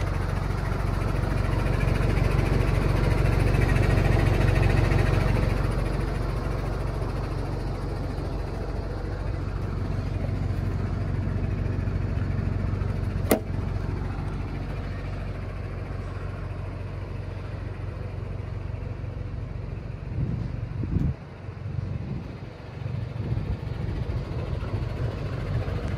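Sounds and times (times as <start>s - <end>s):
diesel truck engine idling: 0.0s - 25.9s.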